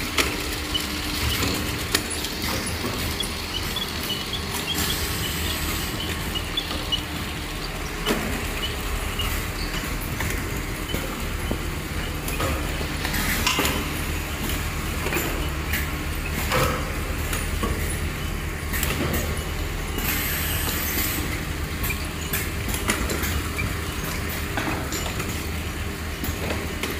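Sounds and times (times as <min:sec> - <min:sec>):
conveyor motors humming: 0:00.0 - 0:26.9
pallets clicking and clunking: 0:00.0 - 0:26.9.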